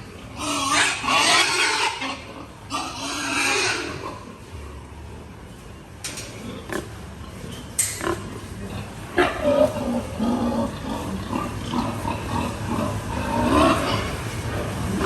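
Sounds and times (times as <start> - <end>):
pigs grunting: 0.0 - 4.8, 6.2 - 15.0.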